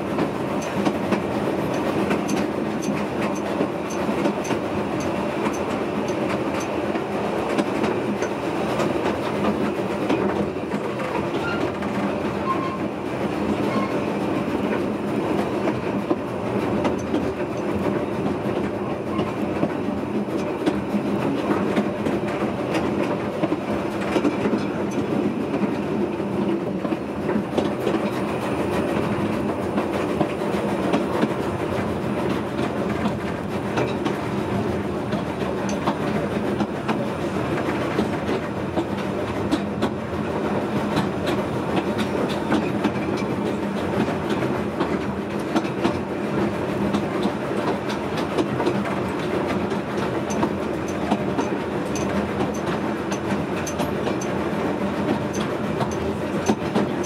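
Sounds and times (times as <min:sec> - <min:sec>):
train rumbling and rattling: 0:00.0 - 0:57.0.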